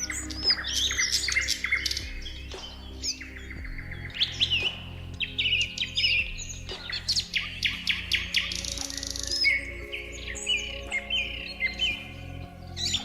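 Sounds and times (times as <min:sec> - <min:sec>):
soft background music: 0:00.0 - 0:13.0
songbirds chirping and whistling: 0:00.0 - 0:13.0.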